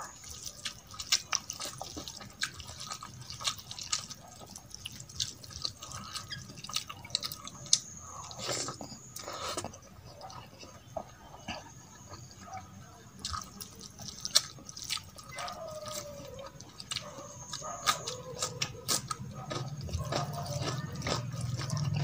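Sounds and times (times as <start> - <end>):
mouth eating sounds: 0.0 - 22.0.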